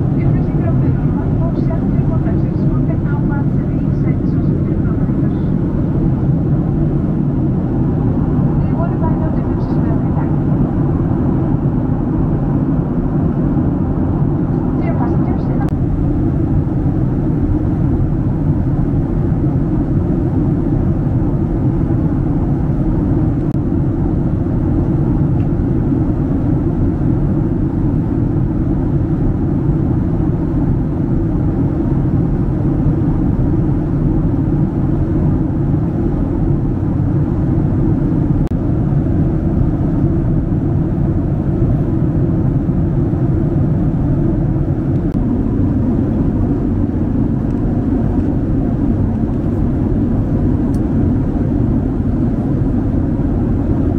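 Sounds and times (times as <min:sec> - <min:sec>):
airliner cabin engine drone: 0:00.0 - 0:53.9.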